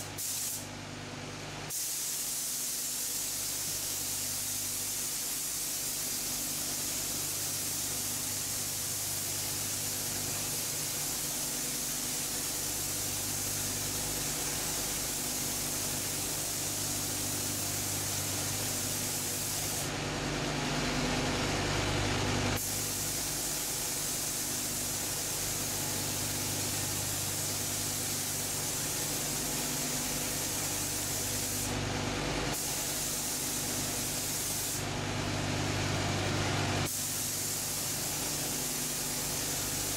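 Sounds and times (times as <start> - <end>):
paint spray gun hissing: 0.0 - 0.7, 1.7 - 19.9, 22.6 - 31.8, 32.5 - 34.9, 36.8 - 39.9.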